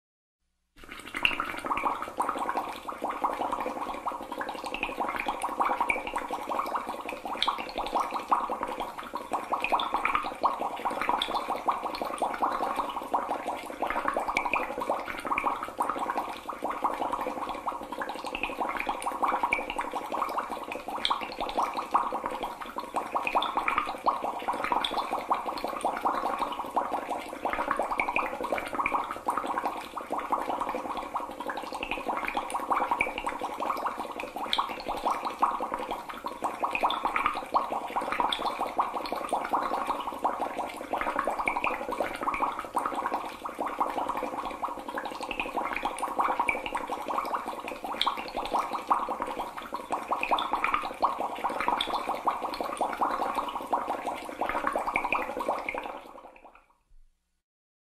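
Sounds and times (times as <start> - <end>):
water bubbling and gurgling: 0.8 - 56.6.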